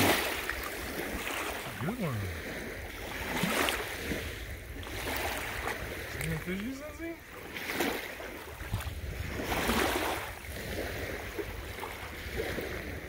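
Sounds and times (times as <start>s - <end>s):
water lapping and sloshing: 0.0s - 13.0s
wind rumbling on microphone: 0.0s - 13.0s.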